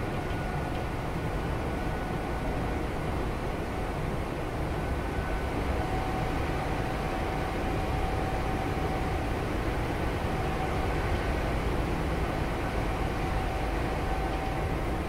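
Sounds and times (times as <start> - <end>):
faint steady whine: 0.0 - 15.0
train wheels rumbling on rails: 0.0 - 15.0.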